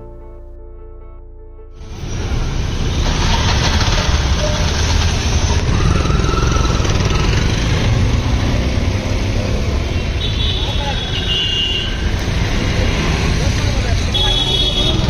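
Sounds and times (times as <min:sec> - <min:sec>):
road traffic engines rumbling: 0:01.8 - 0:15.0.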